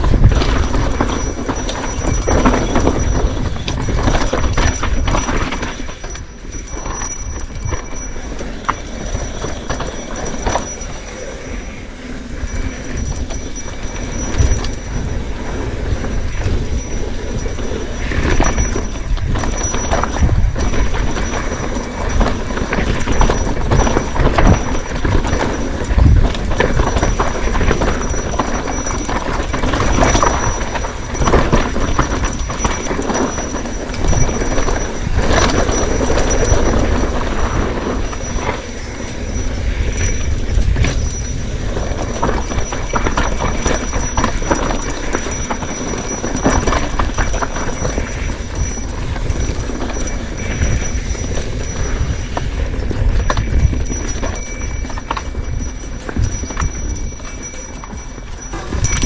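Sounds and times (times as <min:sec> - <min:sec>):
bike rattling over rough trail: 0:00.0 - 0:59.0.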